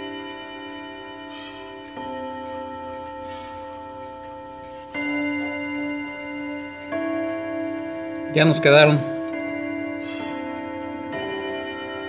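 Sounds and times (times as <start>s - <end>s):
clock chime ringing: 0.0s - 12.0s.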